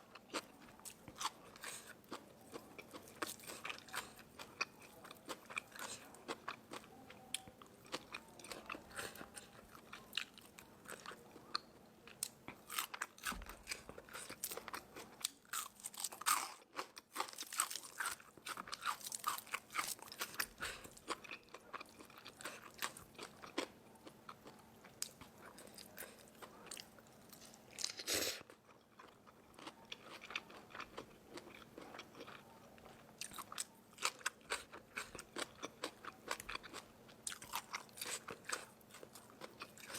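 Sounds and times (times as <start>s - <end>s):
person chewing crisp food: 0.0s - 39.9s.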